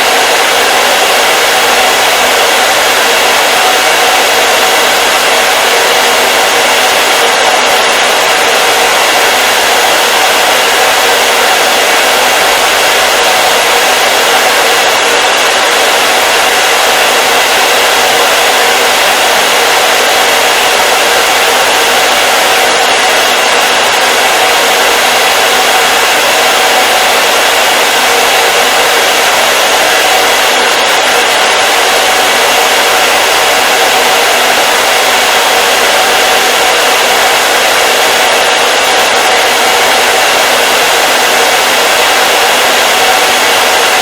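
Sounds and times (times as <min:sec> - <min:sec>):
hair dryer blowing: 0:00.0 - 0:44.0.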